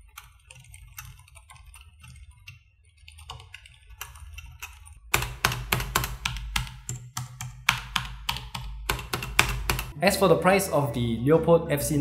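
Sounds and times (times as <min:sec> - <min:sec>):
mechanical keyboard typing: 0:00.0 - 0:10.0.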